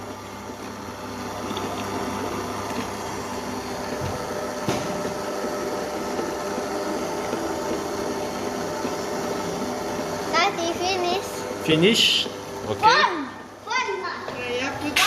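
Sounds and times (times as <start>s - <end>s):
electric kitchen mixer running: 0.0s - 15.0s.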